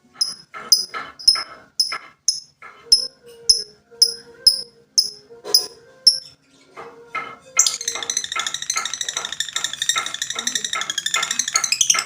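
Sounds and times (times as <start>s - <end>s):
bird chattering song: 0.2s - 6.8s, 7.6s - 12.0s.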